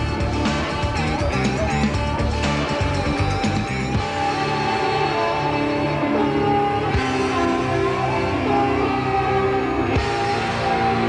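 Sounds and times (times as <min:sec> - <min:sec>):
bass line: 0:00.0 - 0:11.0
rock music with guitar: 0:00.0 - 0:11.0.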